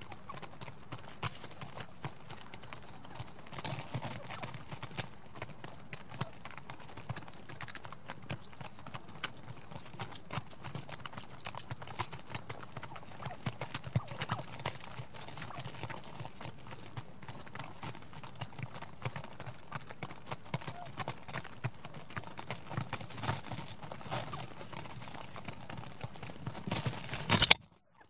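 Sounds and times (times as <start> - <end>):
turkeys pecking corn on snow: 0.0 - 28.0.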